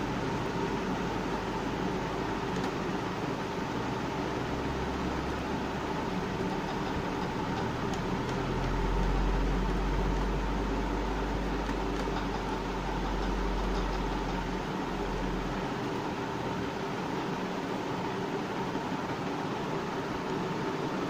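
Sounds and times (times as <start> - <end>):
room hum and hiss: 0.0 - 21.0.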